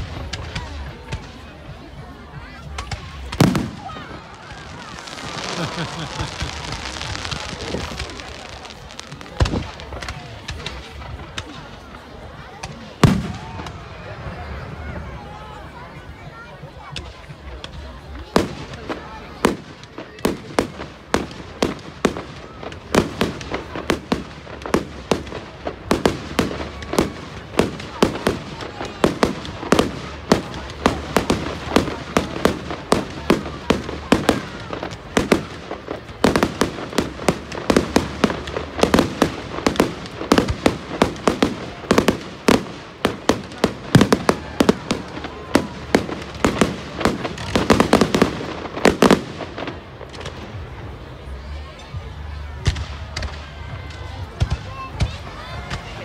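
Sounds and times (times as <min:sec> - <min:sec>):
fireworks bangs: 0:00.0 - 0:14.6, 0:16.9 - 0:51.4.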